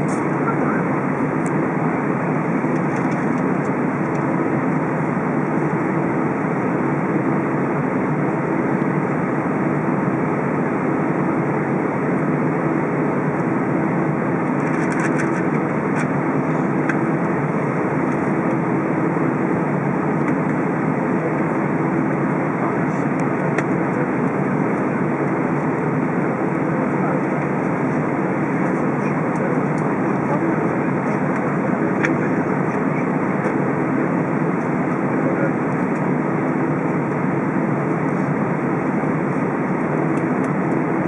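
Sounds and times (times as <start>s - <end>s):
air conditioning roar: 0.0s - 41.0s
aircraft engines idling: 0.0s - 41.0s.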